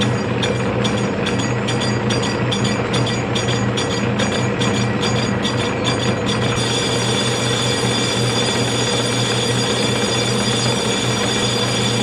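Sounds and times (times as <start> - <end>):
lathe humming with high whine: 0.0 - 12.0.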